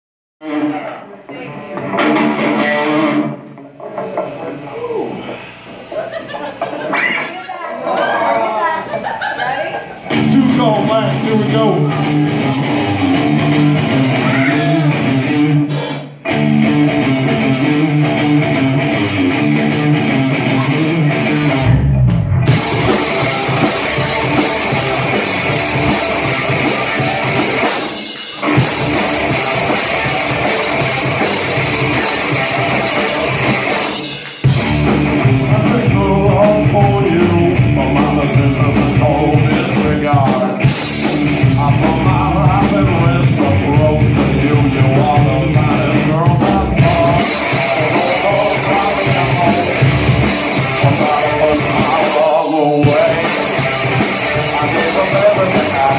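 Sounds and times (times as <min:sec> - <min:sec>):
bass guitar: 0:00.4 - 0:04.5, 0:10.0 - 0:55.9
electric guitars: 0:00.4 - 0:05.8, 0:10.0 - 0:55.9
drum kit: 0:10.1 - 0:55.9.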